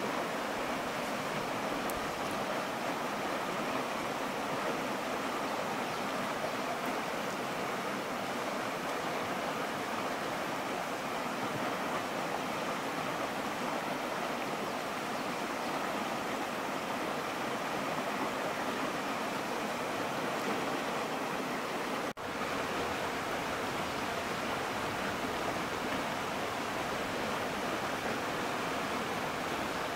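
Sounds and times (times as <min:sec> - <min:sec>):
stream flowing over stones: 0:00.0 - 0:29.9.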